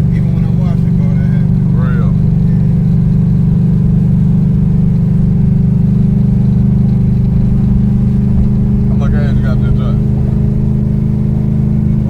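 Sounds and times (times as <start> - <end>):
car engine droning inside cabin: 0.0 - 12.0.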